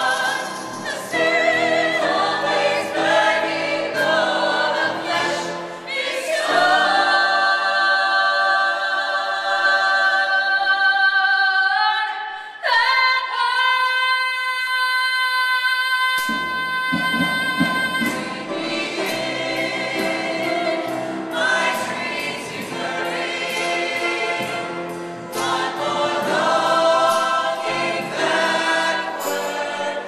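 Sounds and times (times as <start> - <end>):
choir of young voices singing: 0.0 - 14.5, 16.2 - 30.0.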